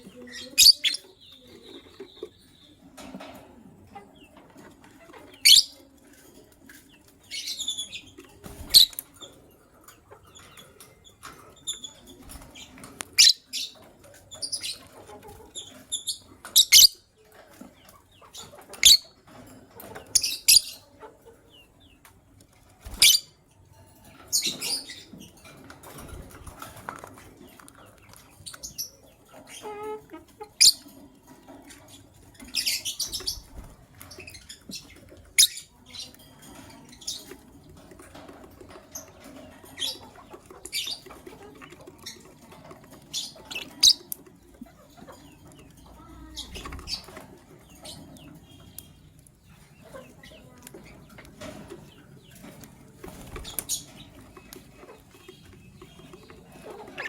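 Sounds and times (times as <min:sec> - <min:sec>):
lovebirds chirping: 0:00.0 - 0:04.4, 0:05.1 - 0:05.9, 0:06.7 - 0:22.1, 0:22.8 - 0:57.0.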